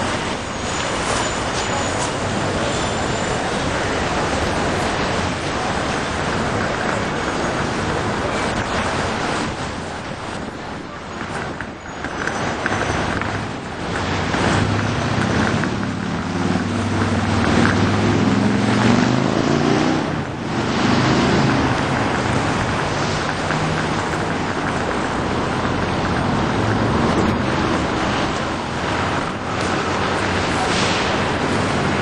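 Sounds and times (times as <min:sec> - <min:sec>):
passing cars and scooters: 0:00.0 - 0:32.0.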